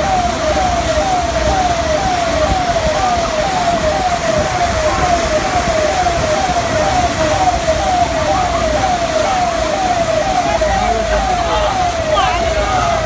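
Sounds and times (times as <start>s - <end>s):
emergency vehicle siren whooping: 0.0s - 13.0s
steady rushing noise: 0.0s - 13.0s.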